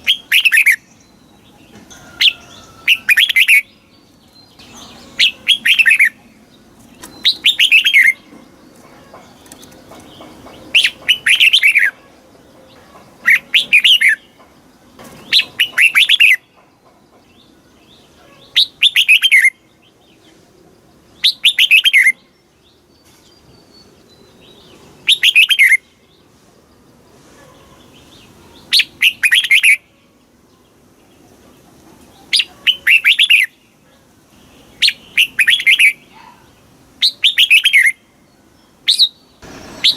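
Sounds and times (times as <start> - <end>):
bird singing warbled phrases: 0.0 - 16.7, 17.4 - 26.3, 27.6 - 39.9.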